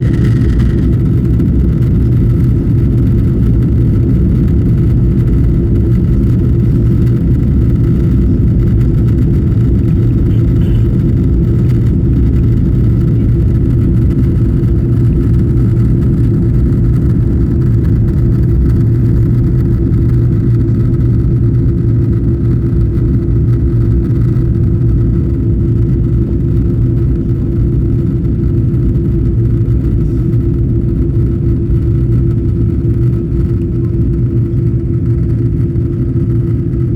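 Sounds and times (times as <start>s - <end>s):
airplane cabin drone: 0.0s - 36.9s.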